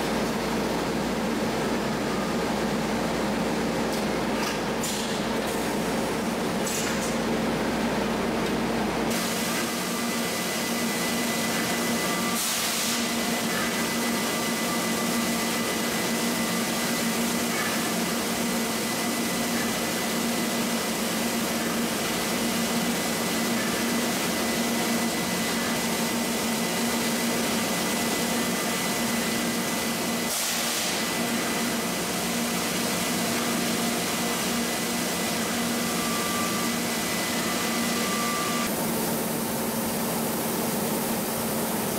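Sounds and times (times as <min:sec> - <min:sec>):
factory machinery hissing: 0:00.0 - 0:41.9.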